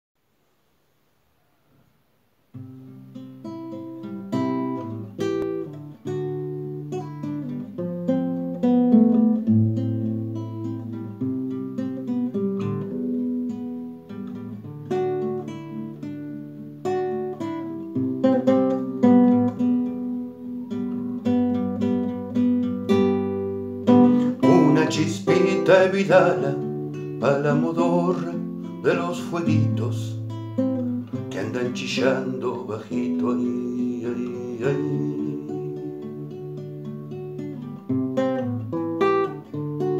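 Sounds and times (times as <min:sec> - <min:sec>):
classical guitar playing: 0:02.5 - 0:39.9.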